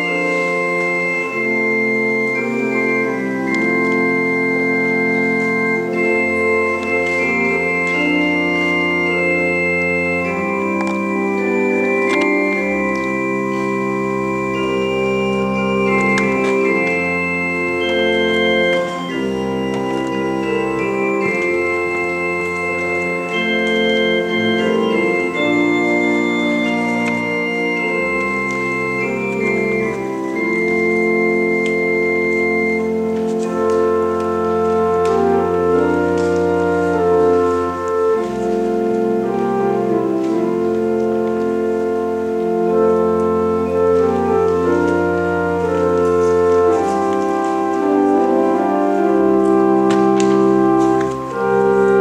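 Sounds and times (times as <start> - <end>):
organ playing held chords: 0.0 - 52.0.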